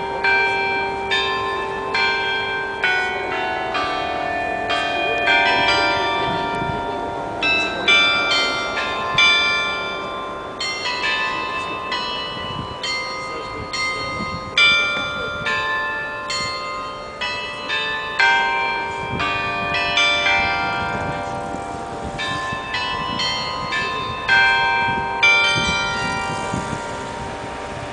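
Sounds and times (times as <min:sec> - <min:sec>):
tuned bells playing slow tune: 0:00.0 - 0:27.9.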